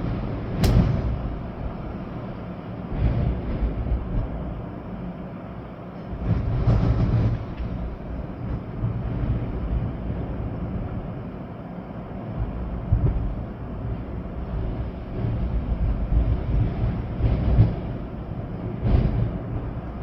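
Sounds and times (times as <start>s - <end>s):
rain: 0.0s - 20.0s
storm wind gusting: 0.0s - 20.0s.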